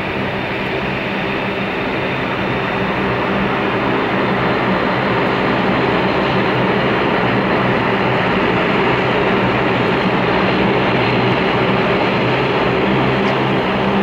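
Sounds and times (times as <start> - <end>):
faint high jet whine: 0.0 - 14.0
jet engines roaring at takeoff: 0.0 - 14.0.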